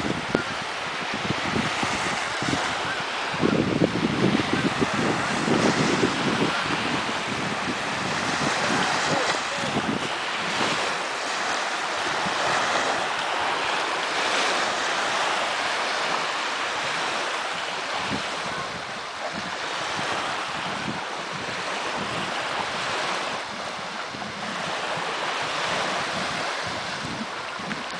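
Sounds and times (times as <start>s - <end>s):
lake waves washing onto beach: 0.0s - 27.9s
wind gusting on microphone: 0.0s - 27.9s.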